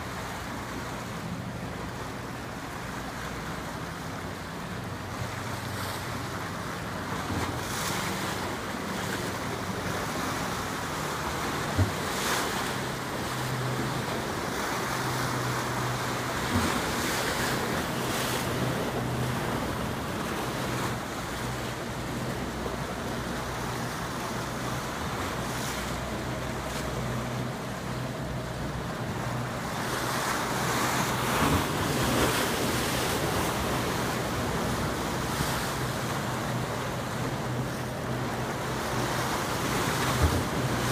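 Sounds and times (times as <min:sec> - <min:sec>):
low engine hum: 0:00.0 - 0:40.9
river water and boat wakes: 0:00.0 - 0:40.9.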